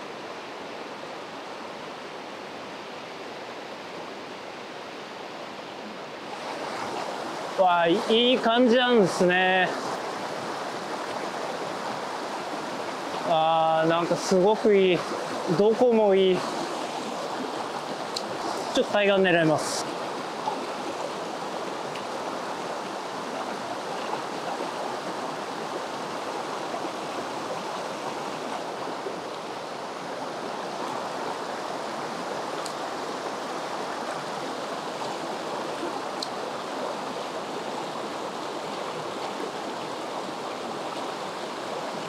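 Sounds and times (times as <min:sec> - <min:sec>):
stream water flowing: 0:00.0 - 0:42.0.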